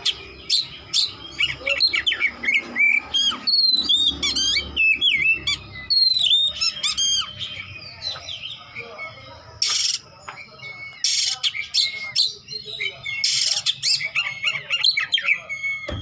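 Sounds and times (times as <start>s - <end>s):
bird singing whistled song: 0.0s - 16.0s.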